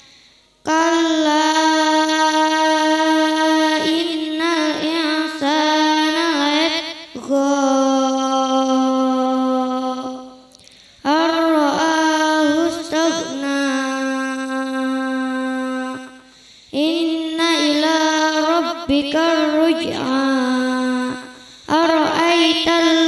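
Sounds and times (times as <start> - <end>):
girl chanting melodically: 0.0 - 23.0.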